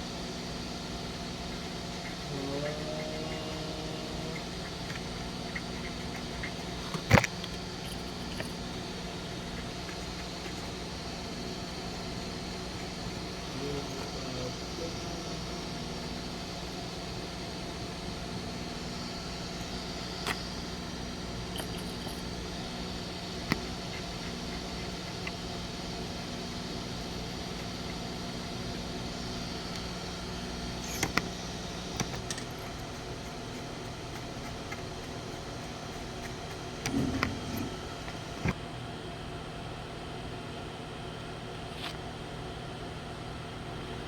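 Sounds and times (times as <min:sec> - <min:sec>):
machine hum: 0:00.0 - 0:38.6.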